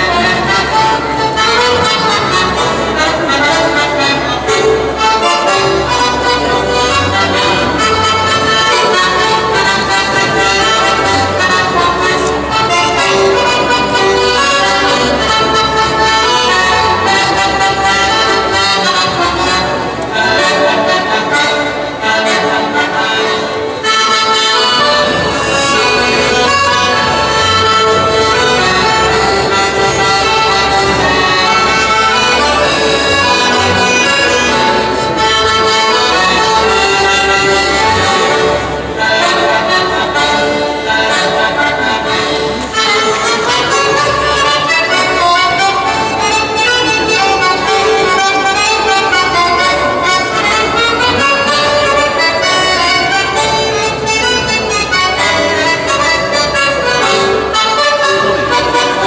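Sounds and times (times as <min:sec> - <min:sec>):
accordion folk dance tune: 0:00.0 - 0:59.0
double bass beat: 0:00.0 - 0:59.0.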